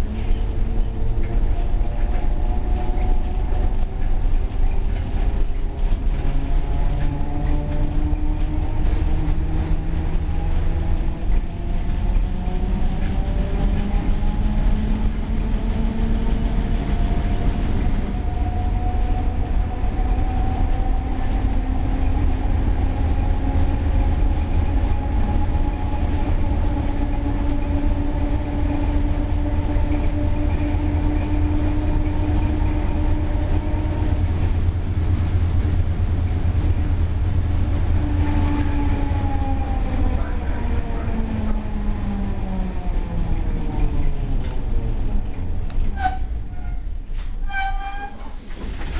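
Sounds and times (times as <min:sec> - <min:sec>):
tram motor whine rising: 0:00.0 - 0:47.5
tram wheels rumbling: 0:00.0 - 0:48.9.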